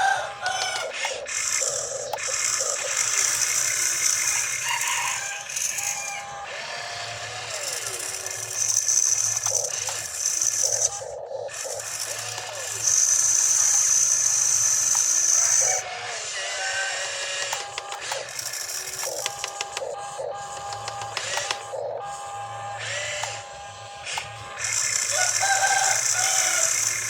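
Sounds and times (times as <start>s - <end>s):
high motor whine: 0.0s - 27.0s
toy motor whirring: 0.0s - 27.0s.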